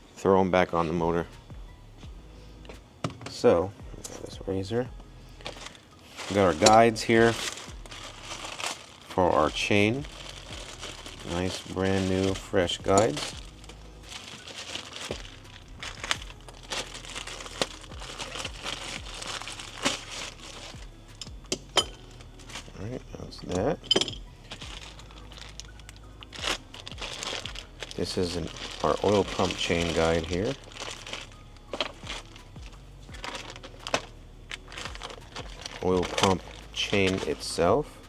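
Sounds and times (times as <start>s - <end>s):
low steady hum: 0.0s - 38.0s
packaging crinkling and rustling: 2.7s - 38.0s.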